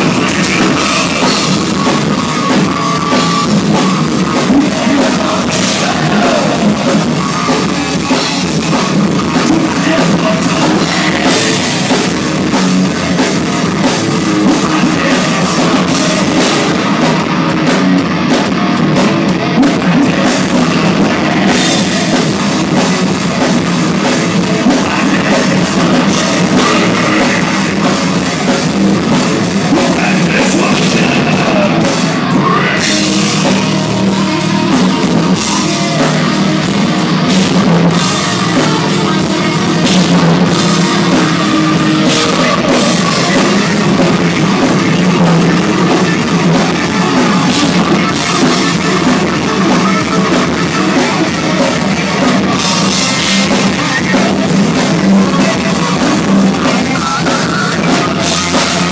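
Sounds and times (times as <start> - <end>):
bass guitar: 0.0 - 58.9
distorted electric guitars: 0.0 - 58.9
pounding drum kit: 0.0 - 58.9.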